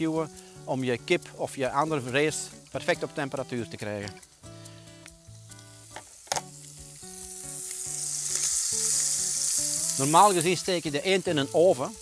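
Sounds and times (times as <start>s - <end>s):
meat sizzling in a frying pan: 0.0s - 12.0s
soft background music: 0.0s - 12.0s.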